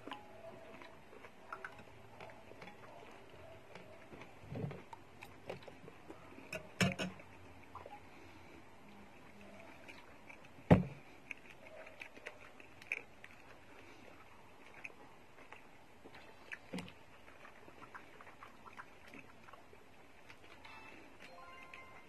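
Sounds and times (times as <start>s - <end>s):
faint chewing: 0.0s - 22.0s.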